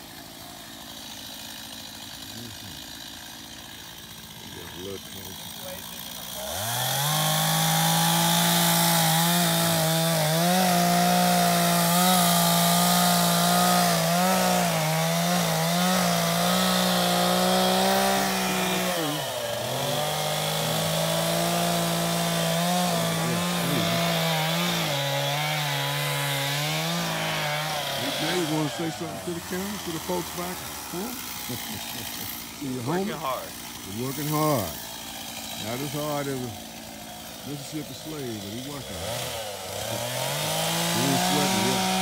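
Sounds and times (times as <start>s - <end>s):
chainsaw cutting tree trunk: 0.0s - 42.0s.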